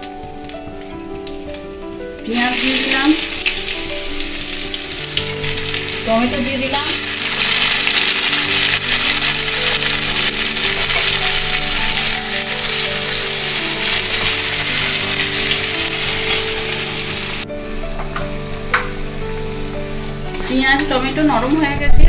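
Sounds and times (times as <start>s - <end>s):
vegetables sizzling in oil: 0.0s - 21.9s
background music of held notes: 0.0s - 22.0s.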